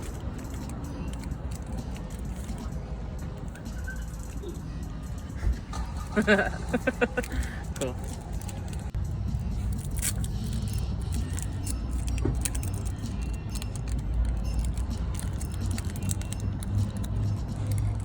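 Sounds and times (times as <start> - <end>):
cards and wrapper rustling: 0.0 - 4.6, 5.2 - 18.0.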